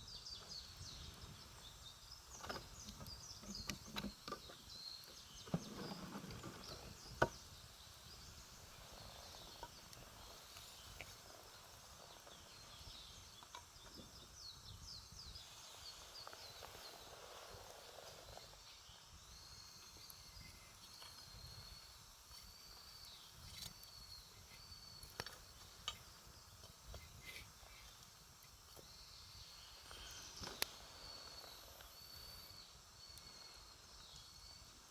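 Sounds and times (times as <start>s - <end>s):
faint high chirping: 0.0s - 34.9s.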